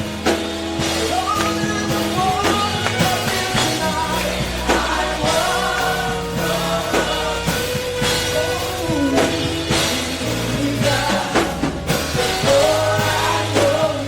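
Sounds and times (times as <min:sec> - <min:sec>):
steady drum beat: 0:00.0 - 0:14.0
singers over a band: 0:00.2 - 0:14.0.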